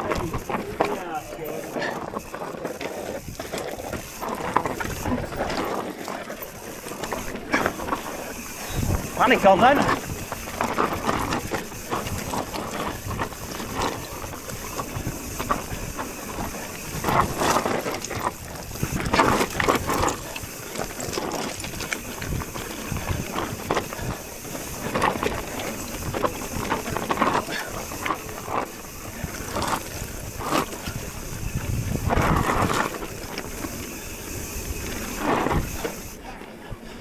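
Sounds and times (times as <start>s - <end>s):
bike rattling: 0.0s - 37.0s
tyres rumbling over dirt: 0.0s - 37.0s
wind buffeting microphone: 0.0s - 37.0s.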